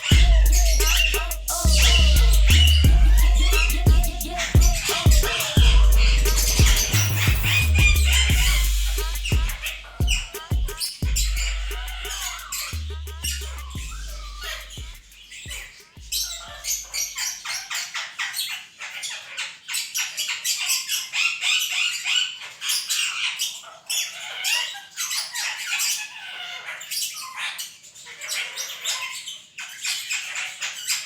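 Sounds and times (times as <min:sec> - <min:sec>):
parrots squawking: 0:00.0 - 0:31.0.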